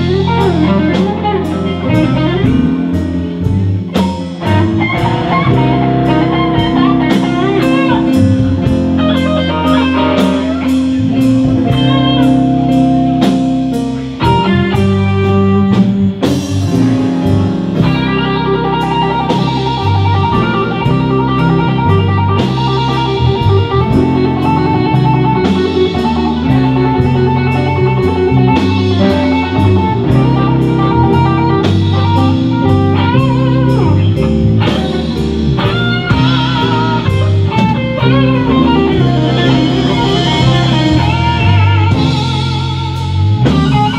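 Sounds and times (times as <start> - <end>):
blues band playing: 0.0 - 43.9
electric guitar solo: 0.0 - 43.9.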